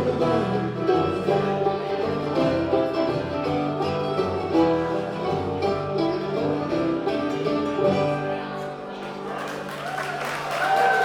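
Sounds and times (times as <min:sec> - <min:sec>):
banjo: 0:00.0 - 0:10.0
guitar: 0:00.0 - 0:11.0.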